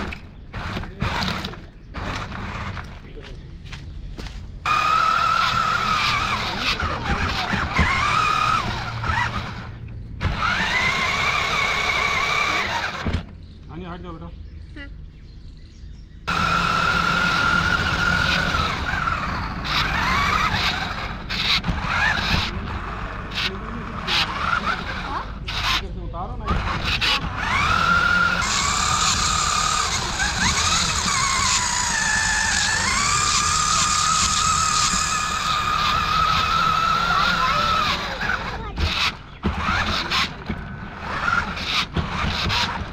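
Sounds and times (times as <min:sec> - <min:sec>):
toy truck electric motor whine: 0:00.0 - 0:03.0, 0:04.6 - 0:13.3, 0:16.3 - 0:42.9.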